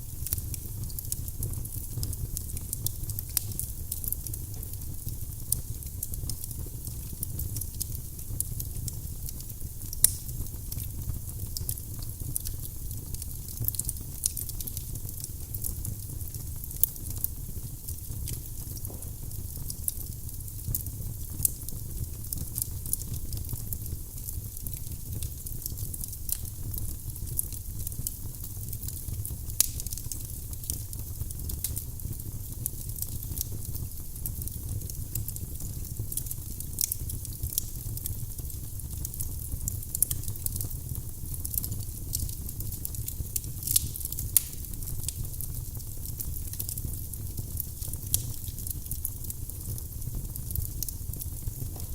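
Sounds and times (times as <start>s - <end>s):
low fire rumble: 0.0s - 51.9s
wood fire crackling: 0.0s - 51.9s
loud fire pops: 0.1s - 51.9s.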